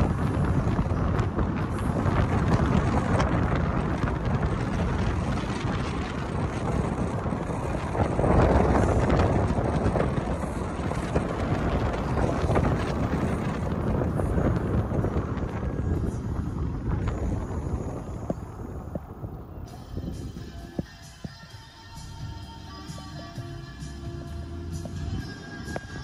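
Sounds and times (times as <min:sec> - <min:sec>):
tyre and road noise: 0:00.0 - 0:26.0
wind rushing over microphone: 0:00.0 - 0:26.0.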